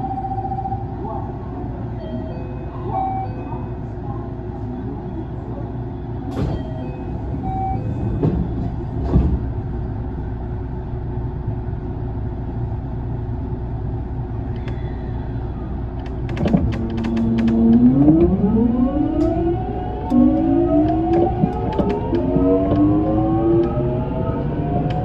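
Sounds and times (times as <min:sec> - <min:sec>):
train equipment low hum: 0:00.0 - 0:25.0.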